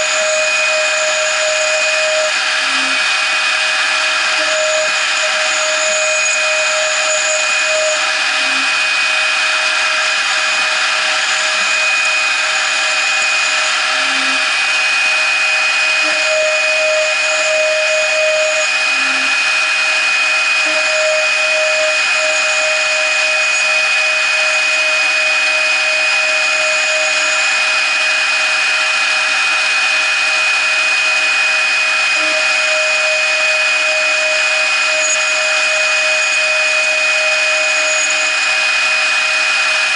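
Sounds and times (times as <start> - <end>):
end mill cutting metal: 0.0 - 39.9
router spindle whine: 0.0 - 39.9.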